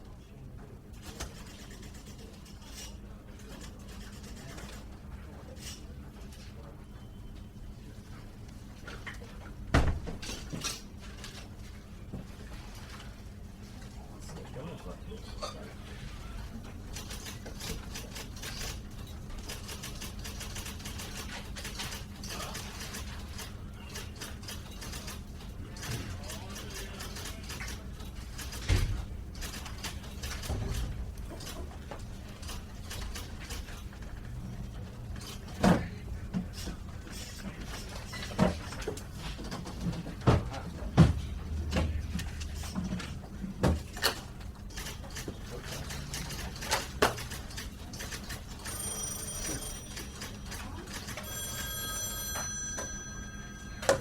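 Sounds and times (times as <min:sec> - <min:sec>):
office room tone: 0:00.0 - 0:54.0.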